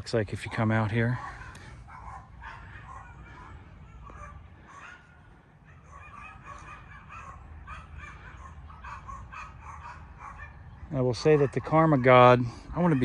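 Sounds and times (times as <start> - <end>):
dogs barking: 0.6 - 13.0.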